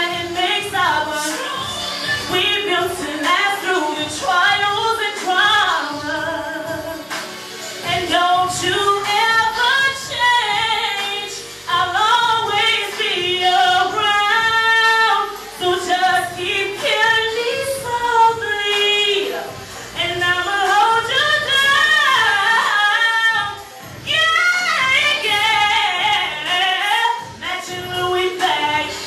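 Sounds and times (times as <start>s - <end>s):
woman singing into a microphone: 0.0s - 29.0s.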